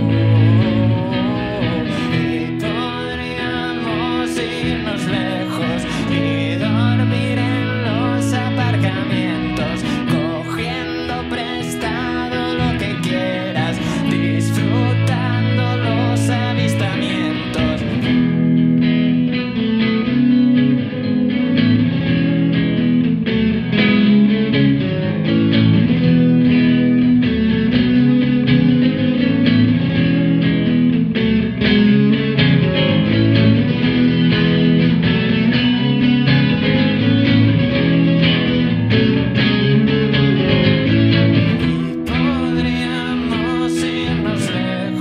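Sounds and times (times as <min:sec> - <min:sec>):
electric guitars: 0:00.0 - 0:45.0.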